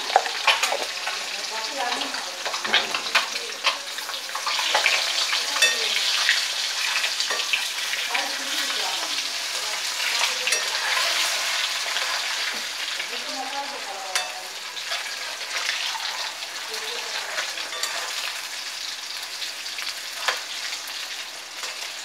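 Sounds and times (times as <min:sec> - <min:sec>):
food sizzling in hot oil: 0:00.0 - 0:22.0
metal spatula scraping a pan: 0:00.0 - 0:22.0.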